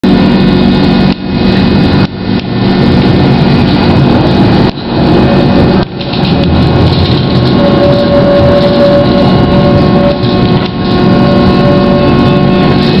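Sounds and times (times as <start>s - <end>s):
tram traction motors droning: 0.0s - 13.0s.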